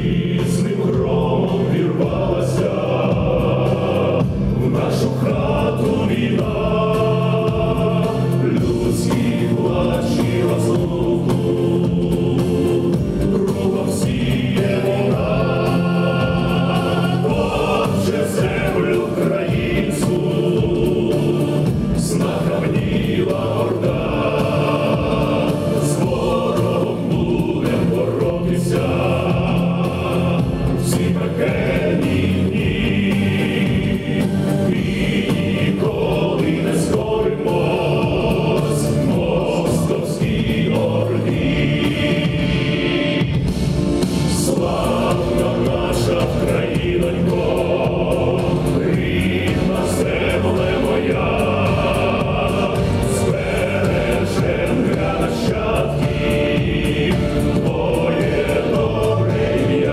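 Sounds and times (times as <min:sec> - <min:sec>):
choir singing held chords: 0:00.0 - 0:59.9.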